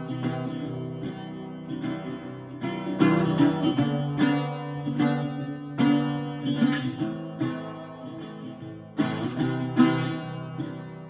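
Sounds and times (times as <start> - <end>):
plucked string instrumental music: 0.0 - 11.0.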